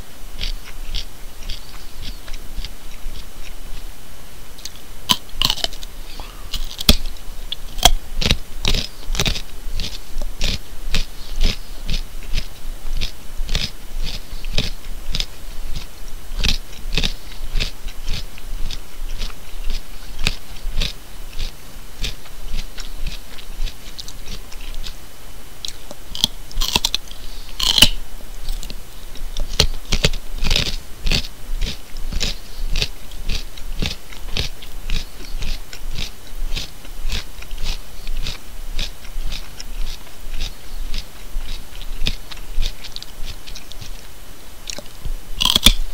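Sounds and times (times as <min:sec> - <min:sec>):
person chewing raw carrot: 0:00.4 - 0:03.9, 0:04.6 - 0:25.0, 0:25.6 - 0:45.9.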